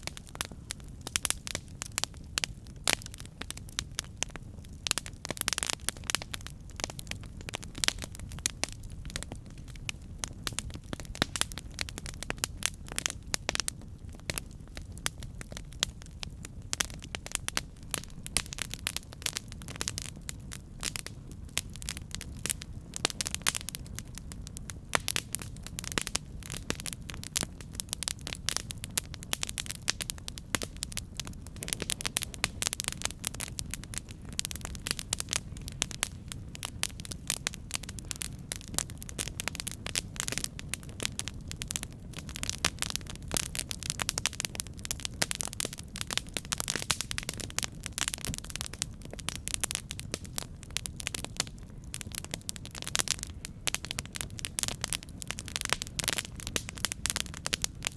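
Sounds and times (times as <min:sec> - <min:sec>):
campfire crackling and popping: 0:00.0 - 0:57.9
low rumble of flames: 0:00.0 - 0:57.9.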